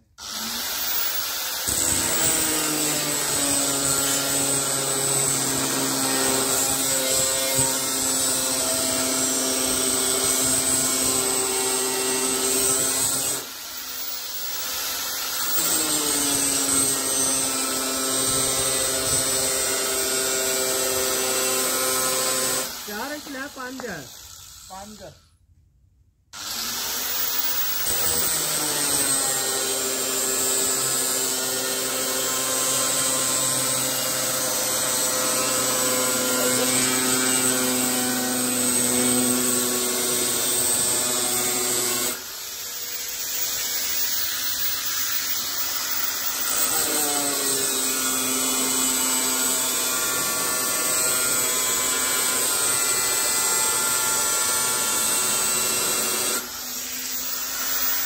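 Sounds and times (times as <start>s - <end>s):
angle grinder cutting metal: 0.0s - 25.2s, 26.4s - 58.0s.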